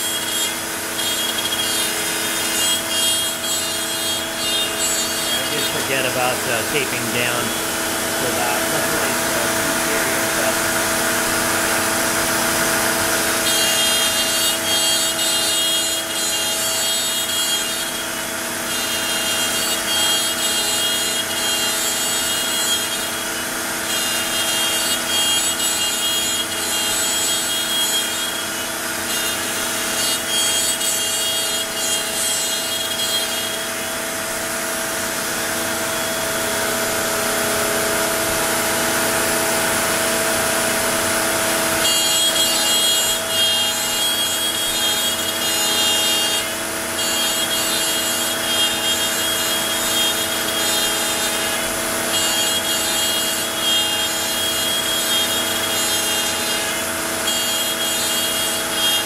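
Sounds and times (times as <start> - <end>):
bit grinding in material: 0.0 - 59.0
cnc router whining: 0.0 - 59.0.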